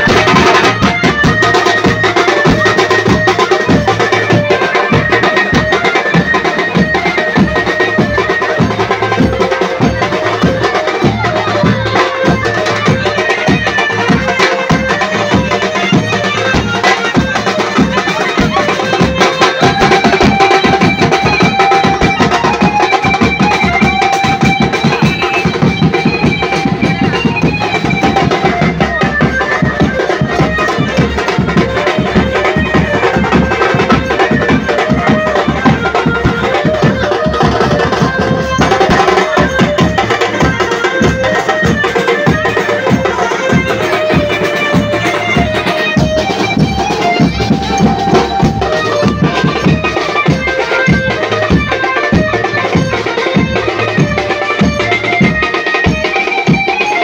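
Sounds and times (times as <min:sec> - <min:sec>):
drums beaten in fast rhythm: 0:00.0 - 0:57.0.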